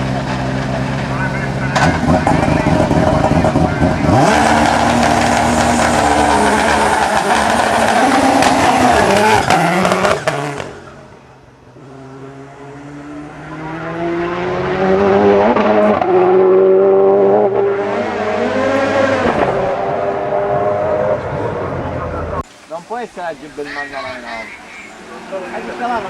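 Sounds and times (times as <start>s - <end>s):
race car at full throttle: 0.0s - 22.5s
race car shifting gears: 0.0s - 26.0s.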